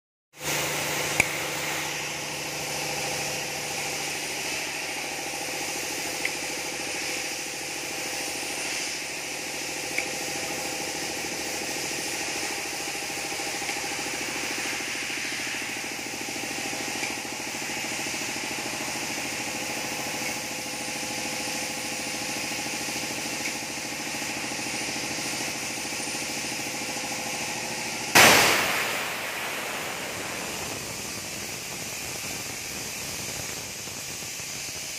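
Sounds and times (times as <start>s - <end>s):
paint spraying pump humming: 0.4s - 34.9s
spray hiss: 0.4s - 34.9s.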